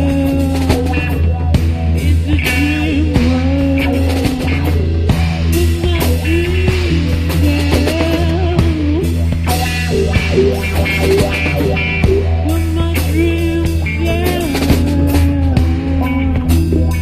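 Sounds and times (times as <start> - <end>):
drums: 0.0 - 17.0
low bass drone: 0.0 - 17.0
sliding lead guitar: 0.0 - 17.0.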